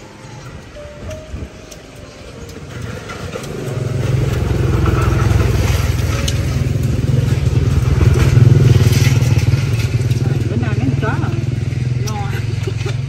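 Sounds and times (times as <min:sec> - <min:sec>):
small engine running: 0:02.5 - 0:13.0.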